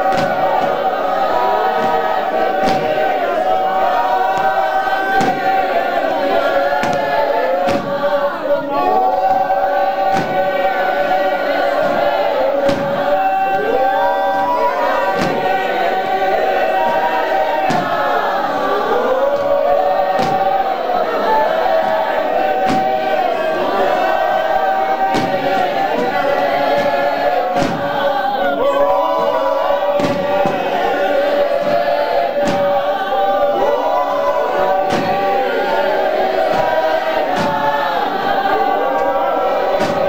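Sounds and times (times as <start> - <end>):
choir singing in harmony: 0.0 - 40.0.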